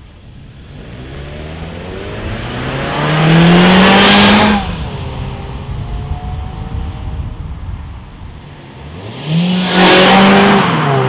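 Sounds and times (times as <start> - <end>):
car engine accelerating past: 0.7 - 11.0.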